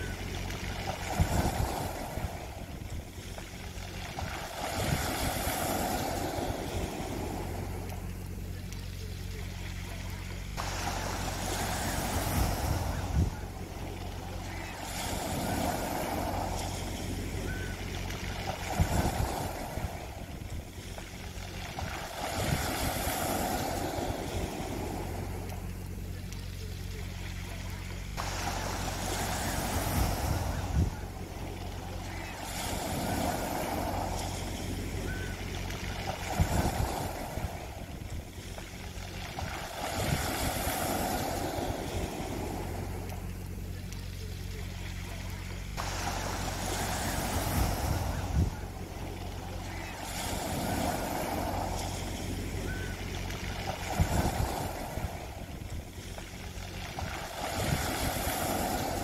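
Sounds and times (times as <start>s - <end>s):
low hum: 0.0s - 59.0s
waves washing over pebbles: 0.0s - 59.0s.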